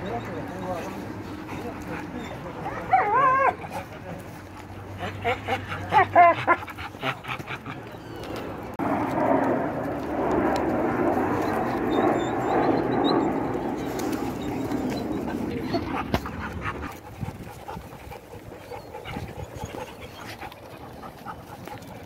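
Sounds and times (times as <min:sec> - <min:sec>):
dogs whining and yipping: 0:00.0 - 0:08.8, 0:11.1 - 0:22.0.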